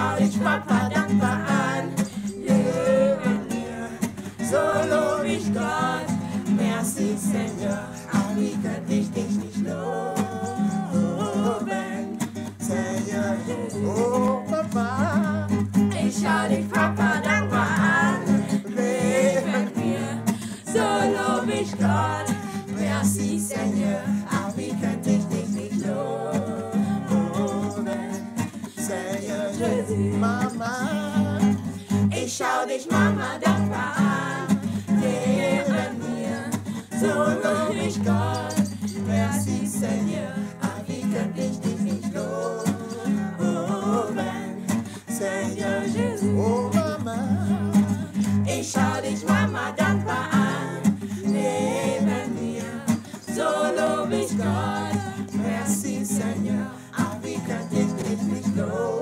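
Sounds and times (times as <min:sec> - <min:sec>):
acoustic guitar: 0:00.0 - 0:59.0
voices singing: 0:00.0 - 0:59.0.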